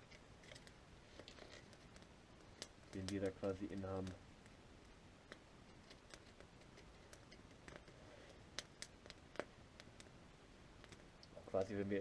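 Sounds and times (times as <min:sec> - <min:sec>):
campfire crackling: 0:00.0 - 0:12.0
faint hiss: 0:00.0 - 0:12.0.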